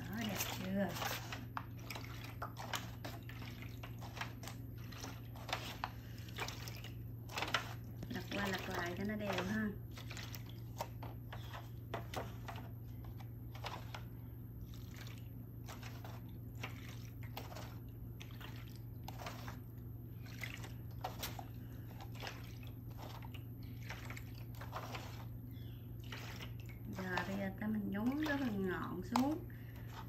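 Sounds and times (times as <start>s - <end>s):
liquid splashing and trickling: 0.0s - 12.6s, 13.6s - 30.0s.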